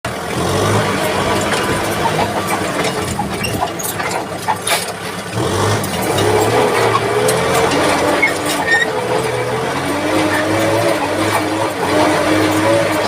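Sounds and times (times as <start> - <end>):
tractor diesel engine running: 0.0 - 13.0
clanks and rattles: 0.1 - 13.0.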